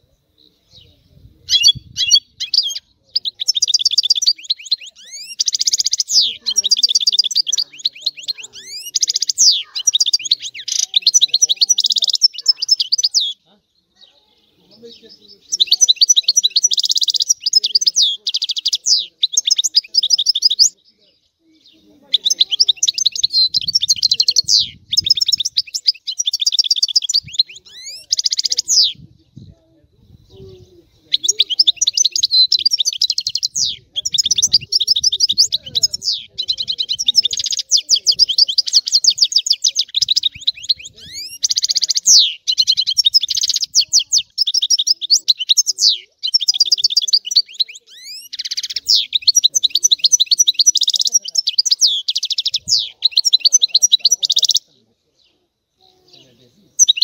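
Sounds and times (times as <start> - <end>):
high-pitched twittering and trills: 0.0 - 21.0, 21.6 - 29.5, 30.2 - 54.8, 55.8 - 57.0
goldfinch singing: 0.0 - 29.4, 30.3 - 57.0.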